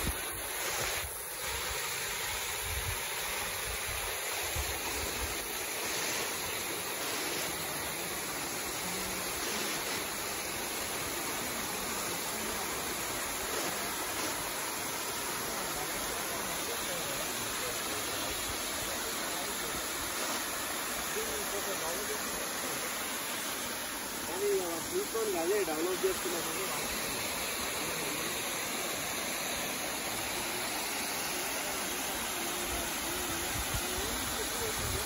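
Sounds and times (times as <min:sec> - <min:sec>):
small waterfall splashing: 0:00.0 - 0:35.0.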